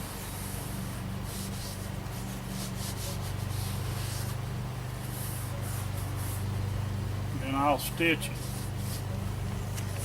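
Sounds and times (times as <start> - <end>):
hissing rubbing on fabric: 0.0 - 6.6, 8.2 - 10.0
steady low hum: 0.0 - 10.0.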